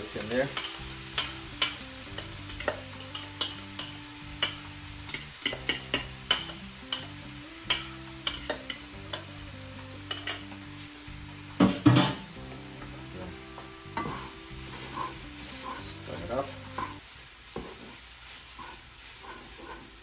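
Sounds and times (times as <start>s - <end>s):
frying pan sizzling: 0.0s - 20.0s.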